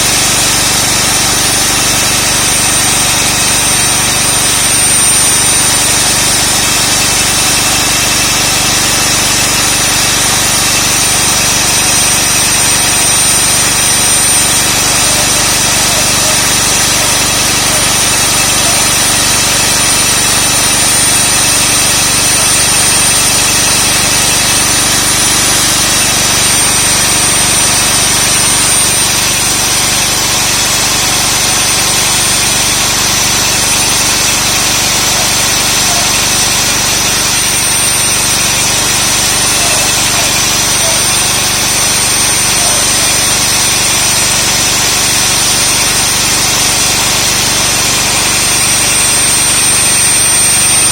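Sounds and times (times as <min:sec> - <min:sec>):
core drill running: 0:00.0 - 0:50.9.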